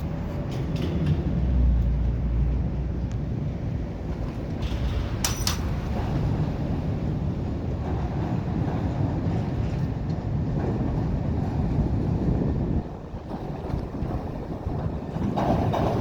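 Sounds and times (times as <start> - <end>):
vehicle low rumble: 0.0 - 16.0.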